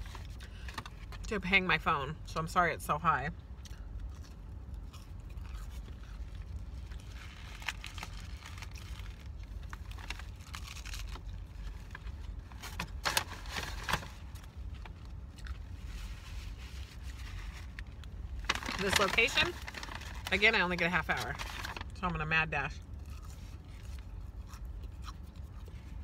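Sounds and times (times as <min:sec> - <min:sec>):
steady low hum: 0:00.0 - 0:26.0
lettuce crunching while chewing: 0:03.4 - 0:22.1, 0:22.8 - 0:26.0.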